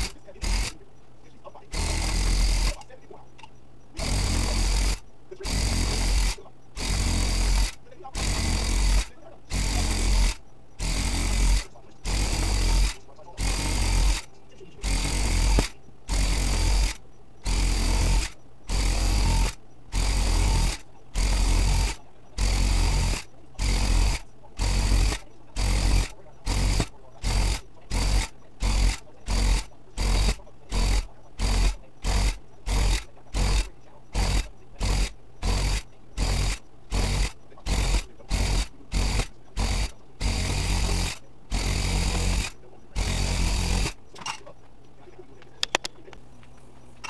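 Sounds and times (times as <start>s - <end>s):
tufting gun buzzing: 0.0s - 44.6s.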